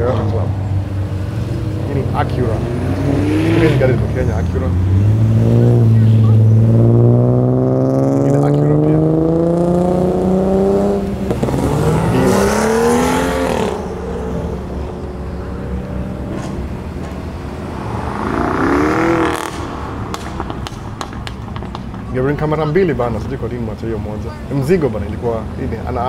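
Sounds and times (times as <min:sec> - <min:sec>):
cars accelerating past: 0:00.0 - 0:22.8.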